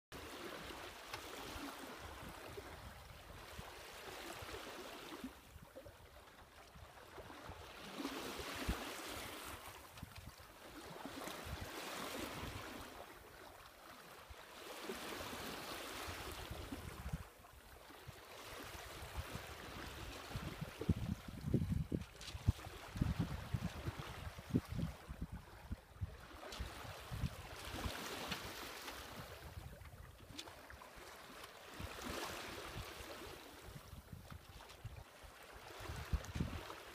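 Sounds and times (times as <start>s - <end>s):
water swishing along boat hull: 0.1s - 36.9s.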